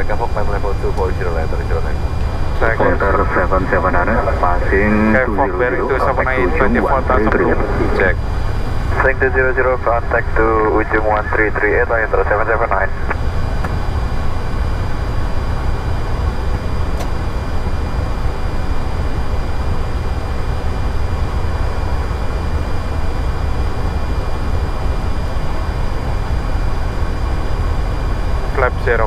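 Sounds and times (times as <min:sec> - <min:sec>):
airliner cockpit engine rumble: 0:00.0 - 0:29.0
faint high whine: 0:00.0 - 0:29.0.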